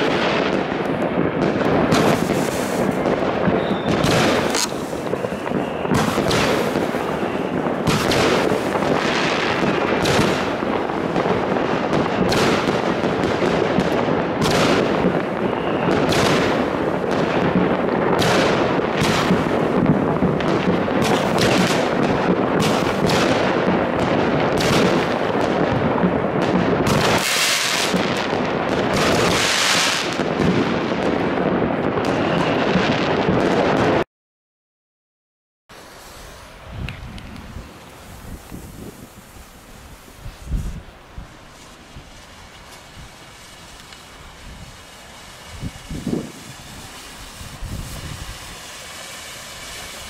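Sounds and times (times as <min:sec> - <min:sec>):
firework crackling hiss: 0:00.0 - 0:33.9, 0:35.7 - 0:50.0
firework bangs: 0:00.0 - 0:34.0, 0:35.8 - 0:50.0.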